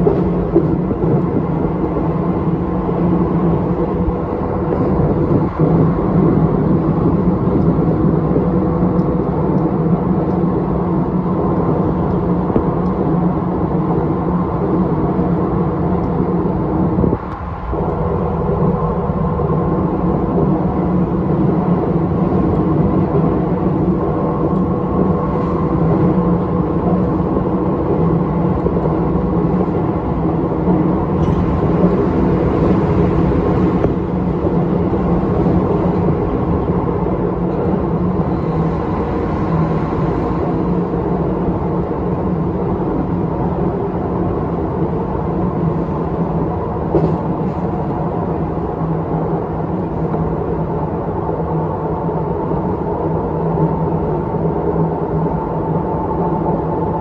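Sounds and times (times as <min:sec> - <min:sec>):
electric train running: 0:00.0 - 0:57.0.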